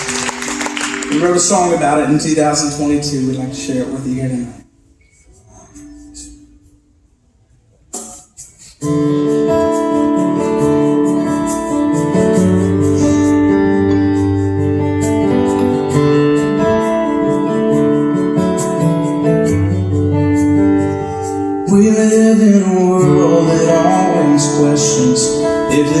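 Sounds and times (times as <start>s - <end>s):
keyboard and guitar chords: 0.0s - 26.0s.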